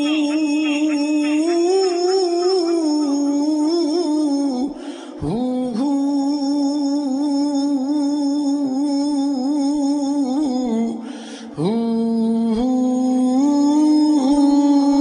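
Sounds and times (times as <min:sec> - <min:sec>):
person singing long bending notes: 0:00.0 - 0:15.0.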